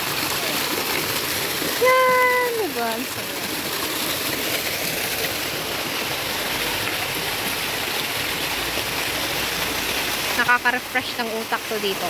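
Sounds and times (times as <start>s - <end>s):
fountain water splashing into pond: 0.0s - 12.0s.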